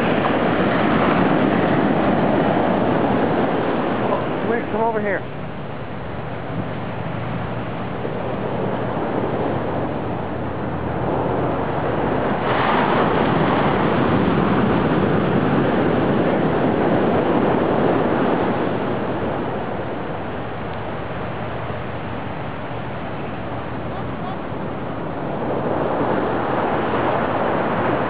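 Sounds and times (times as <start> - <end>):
ocean waves on beach: 0.0 - 28.0.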